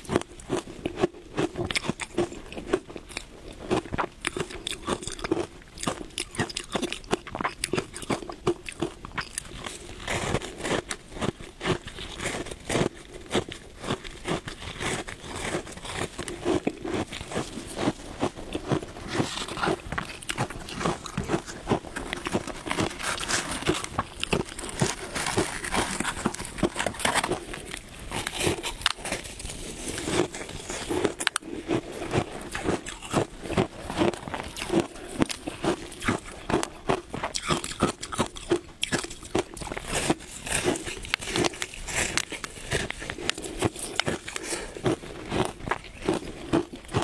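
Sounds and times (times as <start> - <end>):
chewing shaved ice: 0.0 - 47.0.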